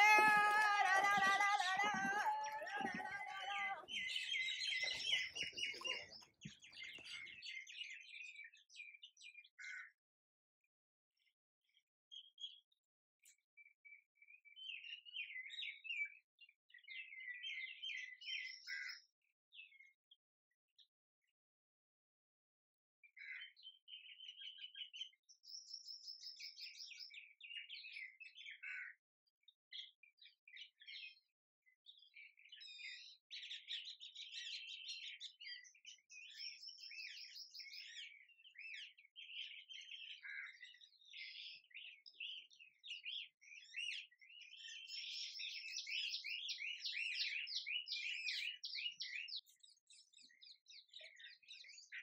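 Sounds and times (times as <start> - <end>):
small birds chirping: 0.0 - 10.0, 11.7 - 20.0, 23.1 - 52.0.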